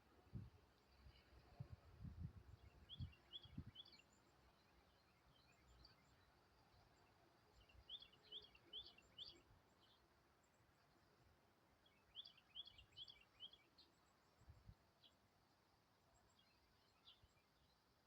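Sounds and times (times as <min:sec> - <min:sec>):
low background noise: 0:00.0 - 0:18.0
faint bird chirping: 0:00.3 - 0:18.0.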